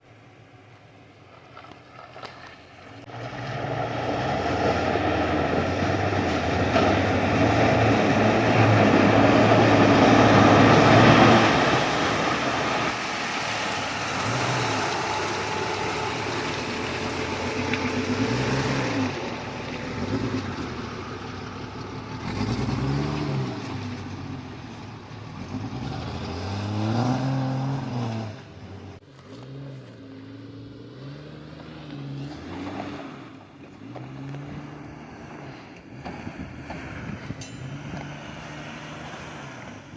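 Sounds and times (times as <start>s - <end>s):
car engine revving: 3.0s - 24.6s, 25.2s - 39.9s.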